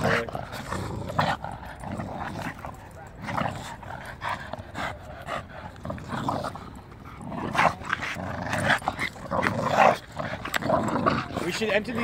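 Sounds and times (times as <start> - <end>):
dogs growling and huffing: 0.0 - 12.0.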